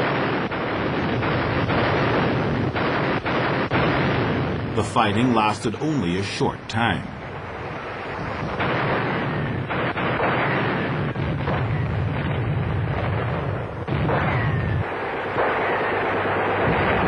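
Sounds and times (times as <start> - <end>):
artillery explosions: 0.0 - 17.0.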